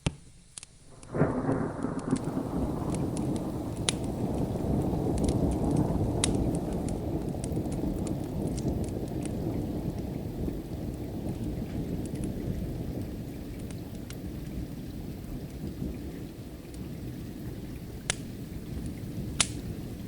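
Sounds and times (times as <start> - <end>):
steady rain: 0.0 - 20.0
wood fire crackling: 0.0 - 20.0
thunder rumbling: 0.9 - 20.0.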